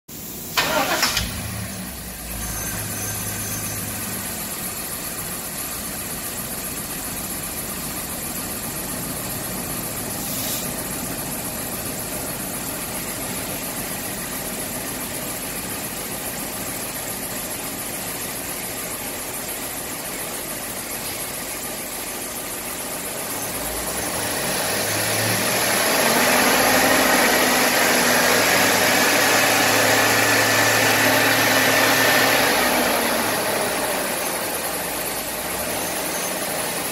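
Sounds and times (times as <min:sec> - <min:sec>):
truck engine idling and revving: 0:00.2 - 0:36.9.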